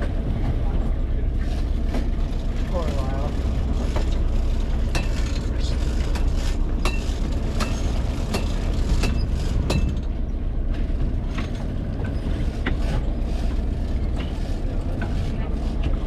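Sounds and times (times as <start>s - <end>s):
boat engine rumble: 0.0s - 16.0s
hull and water noise: 0.0s - 16.0s.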